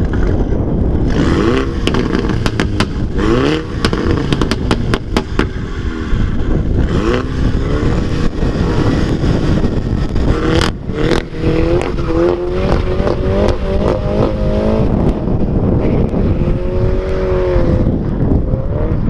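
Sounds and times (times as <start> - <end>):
wind rumble on microphone: 0.0 - 19.0
car engine accelerating hard: 1.0 - 19.0.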